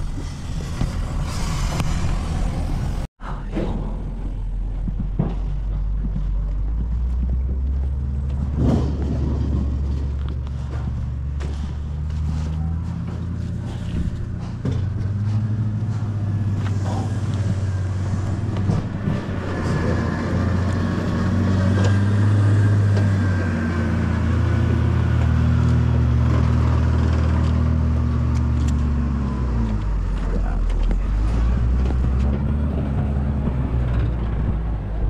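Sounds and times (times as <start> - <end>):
heavy vehicle engine idling: 0.0 - 35.0.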